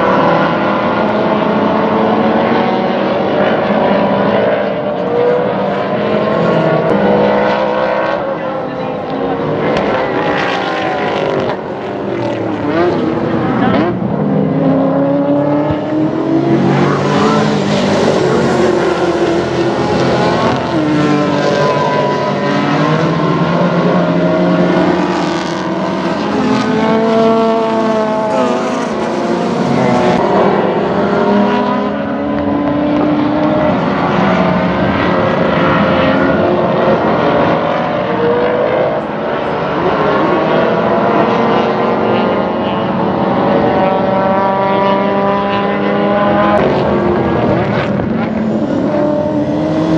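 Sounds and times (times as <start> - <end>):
racing car engines at full throttle: 0.0 - 49.9.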